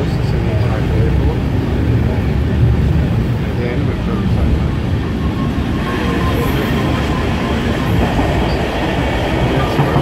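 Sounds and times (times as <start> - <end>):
electric train passing: 0.0 - 10.0
train wheels rumbling on track: 0.0 - 10.0.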